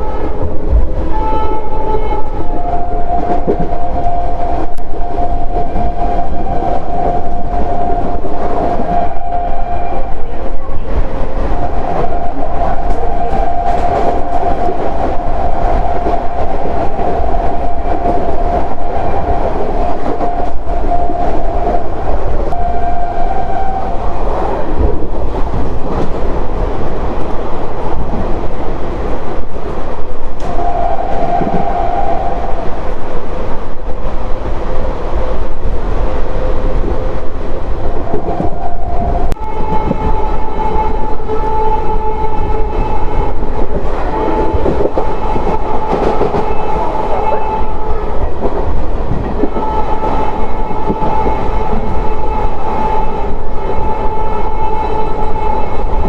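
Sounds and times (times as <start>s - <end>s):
locomotive horn: 0.0s - 24.2s, 30.4s - 33.5s, 36.2s - 48.5s, 49.3s - 56.0s
train wheel and track rumble: 0.0s - 56.0s.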